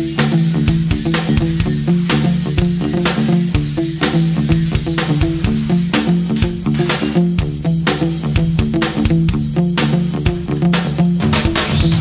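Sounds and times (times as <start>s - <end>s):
funky guitar and bass music: 0.0s - 12.0s.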